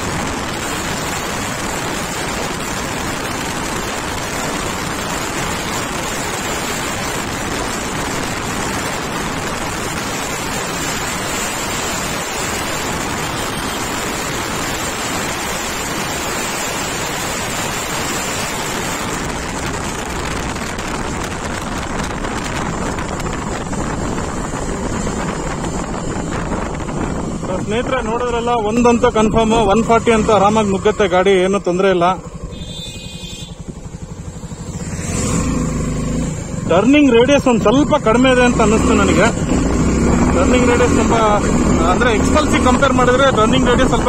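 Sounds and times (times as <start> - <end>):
wind rushing over microphone: 0.0 - 31.5, 33.7 - 44.0.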